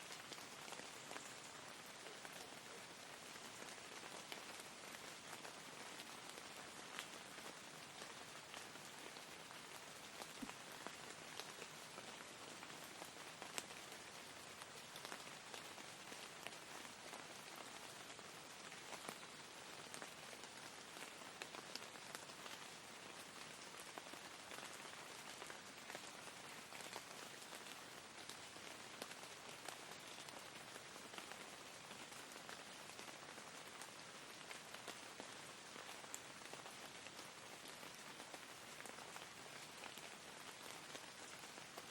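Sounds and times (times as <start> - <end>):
soft rain falling: 0.0 - 41.9.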